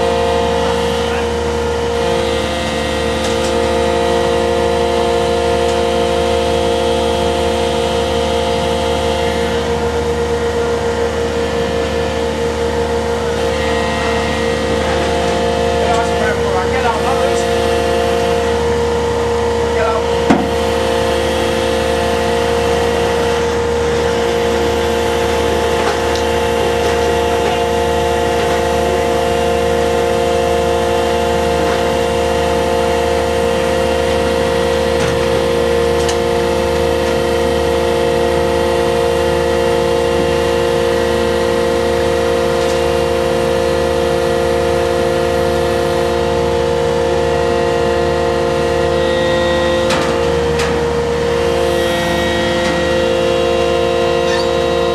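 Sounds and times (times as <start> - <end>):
ship engines droning: 0.0 - 54.9.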